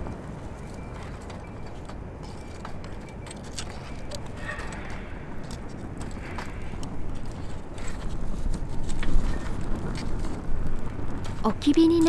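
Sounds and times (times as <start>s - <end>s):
low fire rumble: 0.0s - 12.0s
wood fire crackling and popping: 0.0s - 12.0s.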